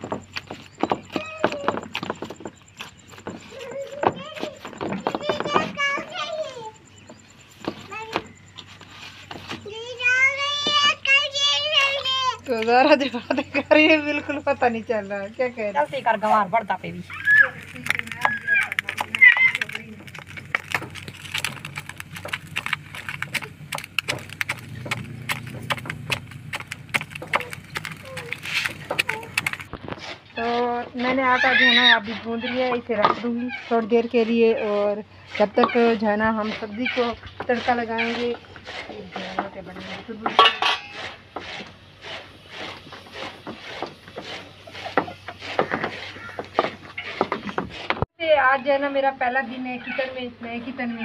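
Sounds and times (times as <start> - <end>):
wooden spoon scraping bowl: 0.0 - 48.1.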